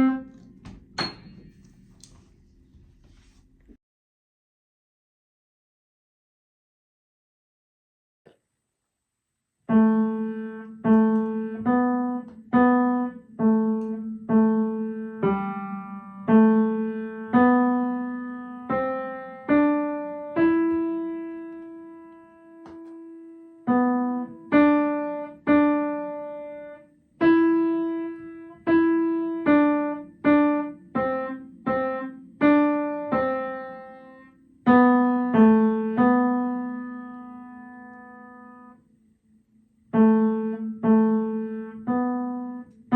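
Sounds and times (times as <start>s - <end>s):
slow piano melody: 0.0s - 2.9s, 9.7s - 42.9s.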